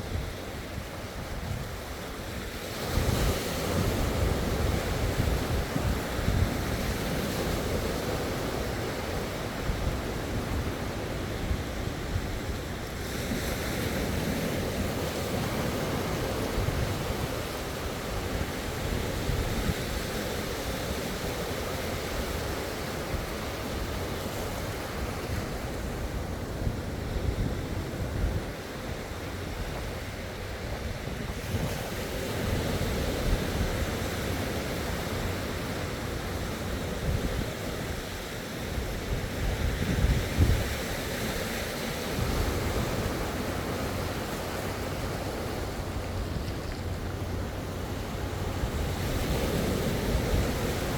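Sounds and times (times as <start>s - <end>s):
sea waves washing onto shore: 0.0s - 50.9s
wind gusting on microphone: 0.0s - 50.9s.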